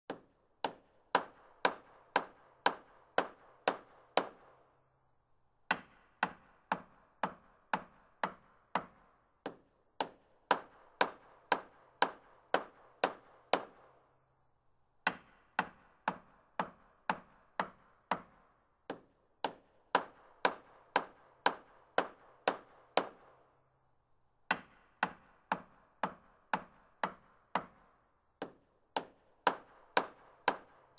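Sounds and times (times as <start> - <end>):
hammer striking wood: 0.1 - 4.8, 5.6 - 14.1, 15.0 - 23.6, 24.4 - 30.9.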